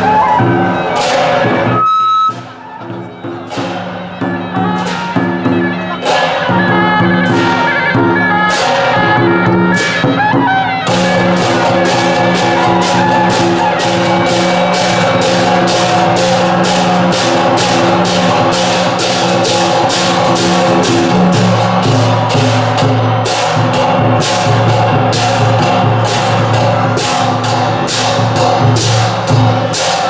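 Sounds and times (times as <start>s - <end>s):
drums and cymbals: 0.0s - 30.0s
held melodic notes: 0.0s - 30.0s.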